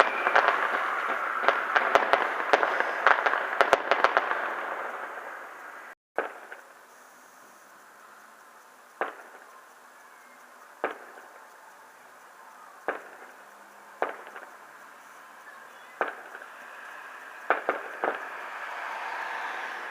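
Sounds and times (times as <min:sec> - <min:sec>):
fireworks bangs: 0:00.0 - 0:07.0, 0:08.9 - 0:09.7, 0:10.7 - 0:19.4
steady hiss: 0:00.0 - 0:19.9.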